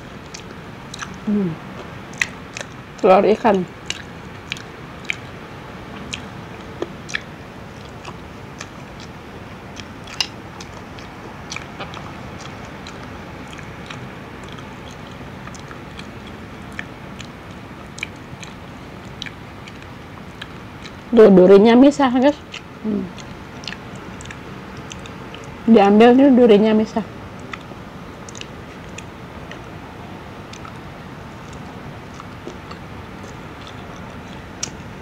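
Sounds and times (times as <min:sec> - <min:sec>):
chewing fried fish: 0:00.0 - 0:25.7, 0:27.1 - 0:35.0
steady low hiss: 0:00.0 - 0:35.0
mouth clicks: 0:00.2 - 0:21.1, 0:22.4 - 0:25.7, 0:27.3 - 0:35.0.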